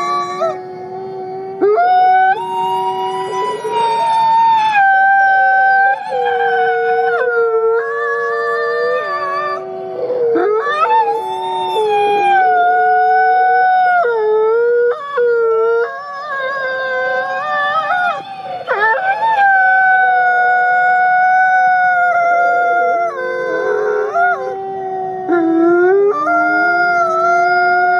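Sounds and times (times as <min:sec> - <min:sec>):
wolves howling in chorus: 0:00.0 - 0:27.9.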